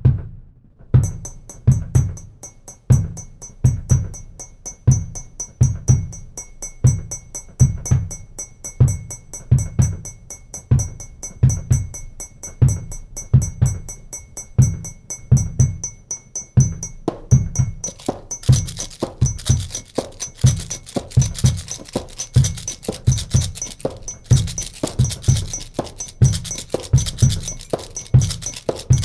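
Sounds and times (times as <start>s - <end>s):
fast high ticks: 1.0s - 29.0s.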